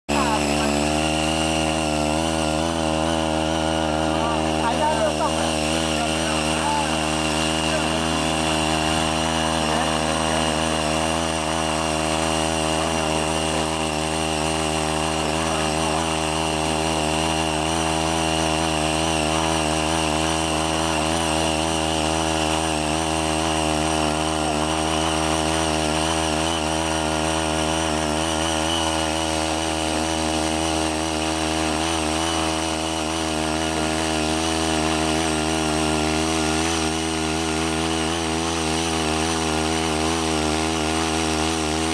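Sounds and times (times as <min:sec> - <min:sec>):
small tiller engine running: 0:00.0 - 0:41.9.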